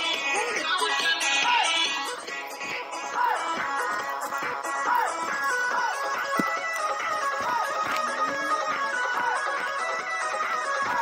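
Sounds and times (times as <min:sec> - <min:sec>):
dance music: 0:00.0 - 0:11.0.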